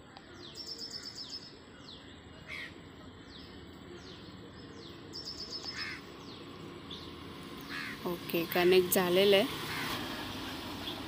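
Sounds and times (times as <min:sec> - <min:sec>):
bird chirping trill: 0:00.4 - 0:09.3.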